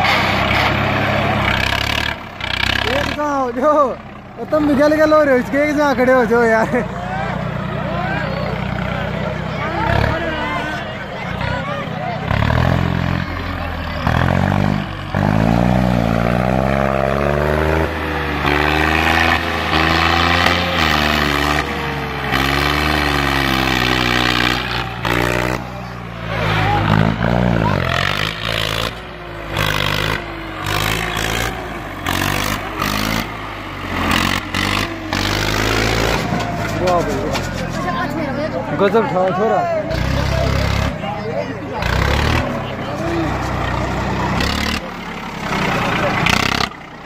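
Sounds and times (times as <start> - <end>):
tractor engine revving: 0.0 - 47.0.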